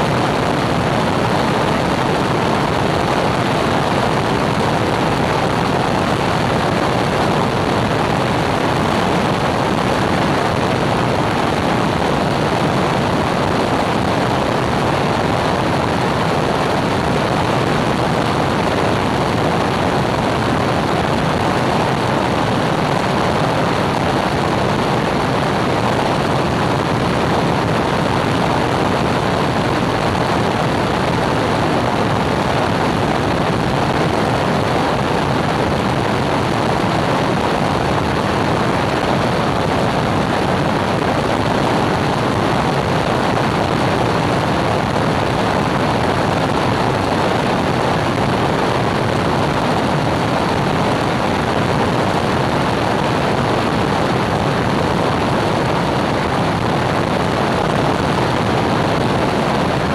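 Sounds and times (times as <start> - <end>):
propeller airplane drone: 0.0 - 59.9
rushing airflow: 0.0 - 59.9.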